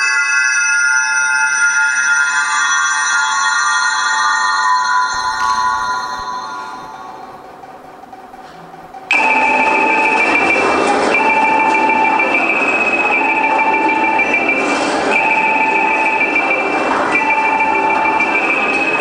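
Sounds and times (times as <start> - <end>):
electronic high tones over speakers: 0.0 - 7.6, 9.1 - 19.0.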